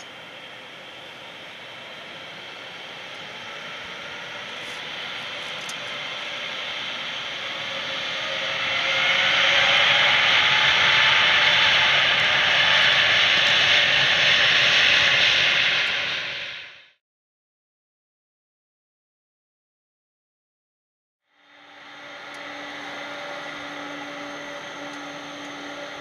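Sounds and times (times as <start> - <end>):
jet engines roaring: 0.0 - 16.8, 21.5 - 26.0.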